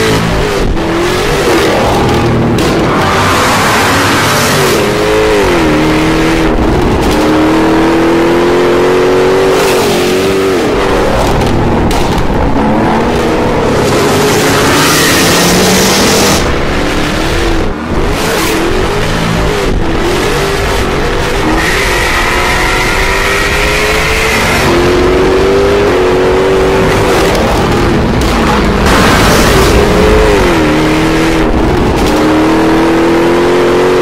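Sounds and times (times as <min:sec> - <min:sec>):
car engine revving through gears: 0:00.0 - 0:34.0.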